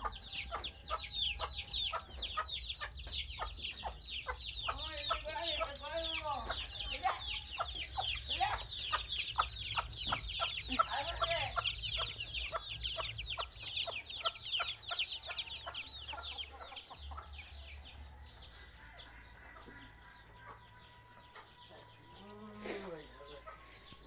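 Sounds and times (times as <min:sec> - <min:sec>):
chicks peeping: 0:00.0 - 0:24.0
hen clucking: 0:00.0 - 0:24.0.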